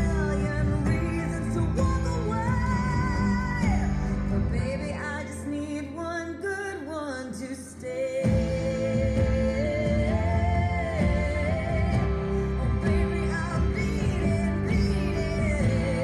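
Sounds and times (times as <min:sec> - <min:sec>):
pop music with sung melody: 0:00.0 - 0:16.0.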